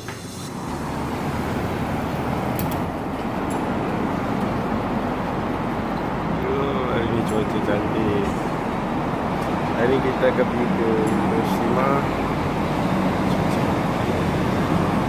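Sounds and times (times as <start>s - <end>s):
vehicle interior road rumble: 0.0s - 15.0s.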